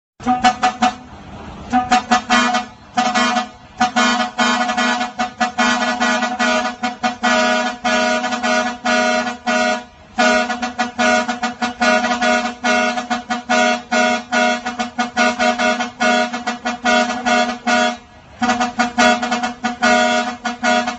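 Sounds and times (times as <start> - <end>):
truck musical air horn tune: 0.2 - 20.9.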